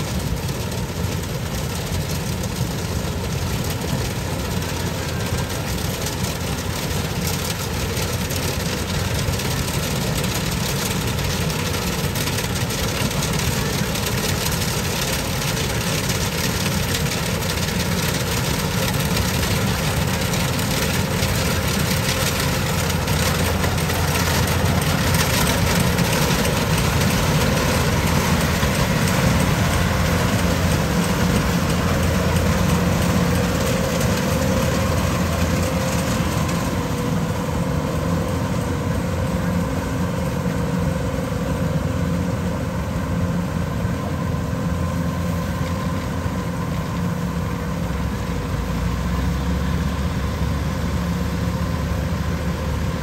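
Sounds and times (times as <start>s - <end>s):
combine harvester engine drone: 0.0s - 53.0s.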